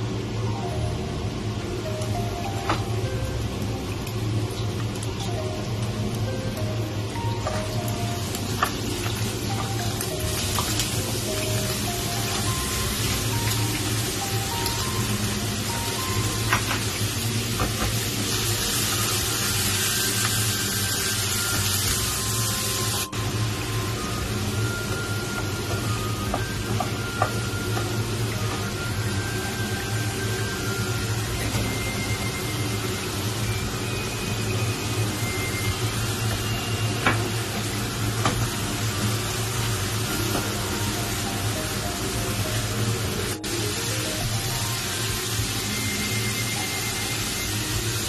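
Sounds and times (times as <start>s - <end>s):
food sizzling in a pan: 0.0s - 48.0s
low appliance hum: 0.0s - 48.0s.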